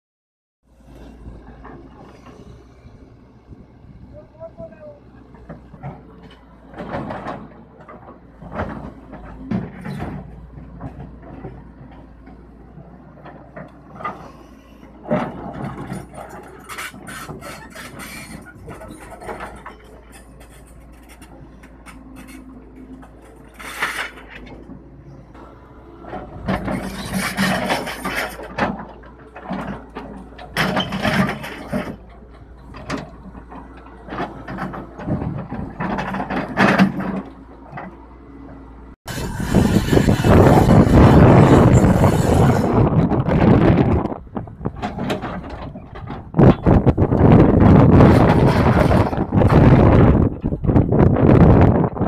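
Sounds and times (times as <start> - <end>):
excavator diesel engine running: 0.7 - 52.0.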